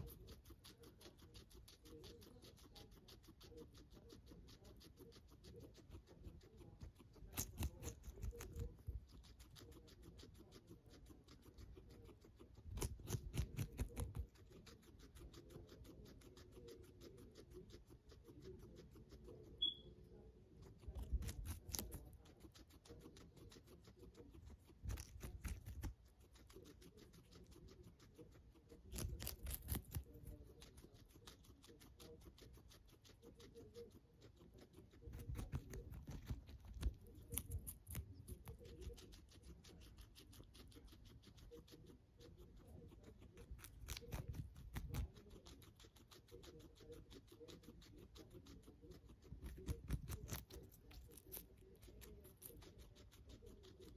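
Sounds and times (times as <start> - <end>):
guinea pig crunching celery: 0.0 - 53.9.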